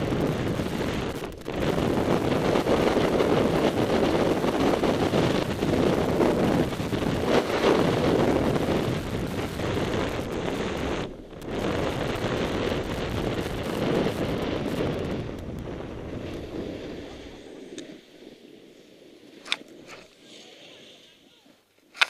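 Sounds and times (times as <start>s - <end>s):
skis sliding on snow: 0.0s - 13.0s, 13.6s - 22.0s
wind buffeting microphone: 0.0s - 22.0s.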